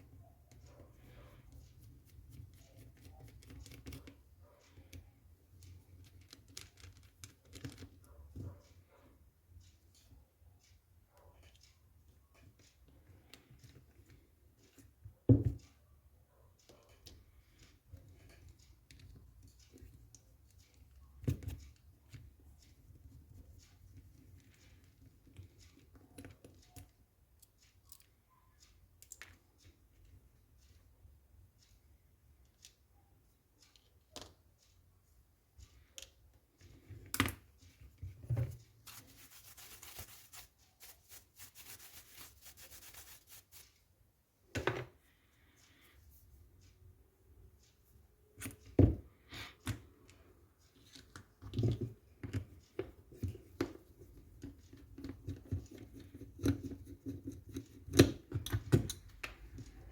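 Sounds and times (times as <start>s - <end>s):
small parts and tools clicking: 0.2s - 15.0s, 16.5s - 43.9s, 49.5s - 59.9s.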